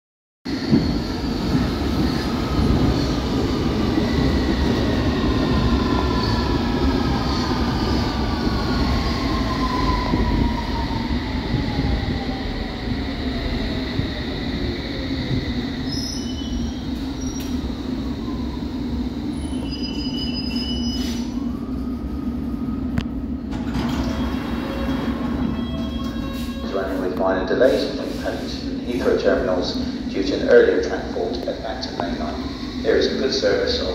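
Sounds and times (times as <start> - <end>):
train rumble: 0.5 - 33.9.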